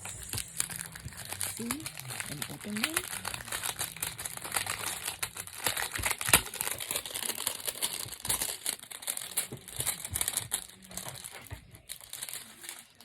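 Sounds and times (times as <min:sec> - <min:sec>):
crinkly packaging being unwrapped: 0:00.0 - 0:13.0.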